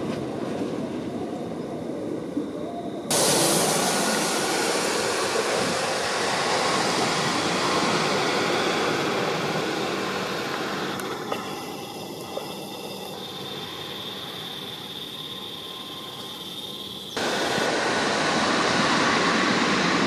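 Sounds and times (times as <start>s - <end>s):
jet engine rush: 3.1s - 20.0s.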